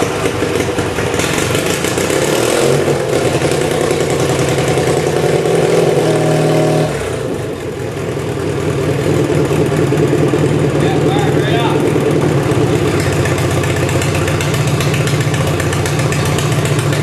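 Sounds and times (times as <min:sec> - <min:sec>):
garden tractor engine running: 0:00.0 - 0:06.6, 0:07.5 - 0:17.0.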